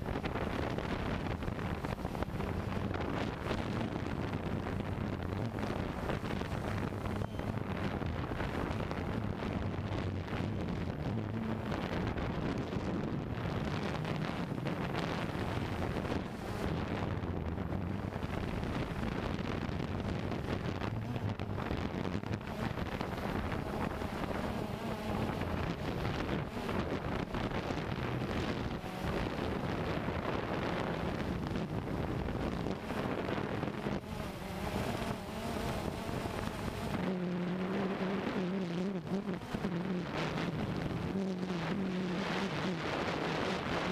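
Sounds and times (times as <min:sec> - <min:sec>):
steady low hum: 0:00.0 - 0:43.9
wind buffeting microphone: 0:00.0 - 0:43.9.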